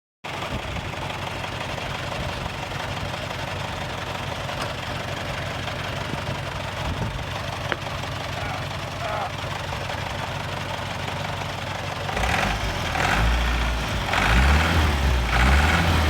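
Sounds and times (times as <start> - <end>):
diesel engine idling with knock: 0.3 - 16.0.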